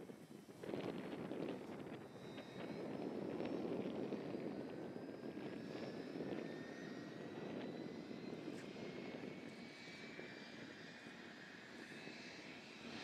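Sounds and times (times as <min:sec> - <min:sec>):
helicopter turbine whine spooling up: 0:00.0 - 0:13.0.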